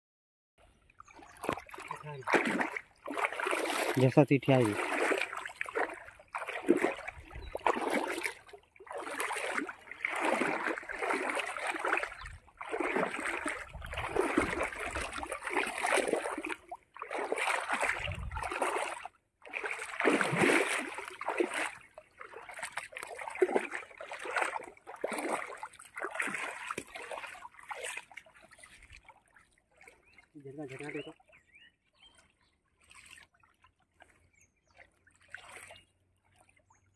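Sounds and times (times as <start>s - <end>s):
net hauled through water: 0.6s - 36.9s
water splashing around wading legs: 0.7s - 36.9s.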